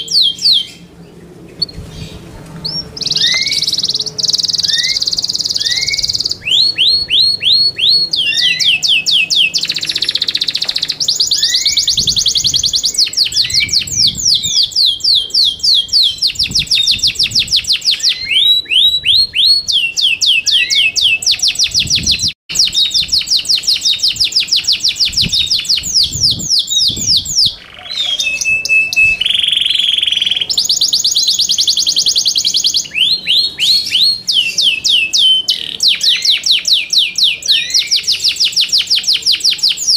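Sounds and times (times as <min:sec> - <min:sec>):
canary singing in fast trills: 0:00.0 - 0:39.9.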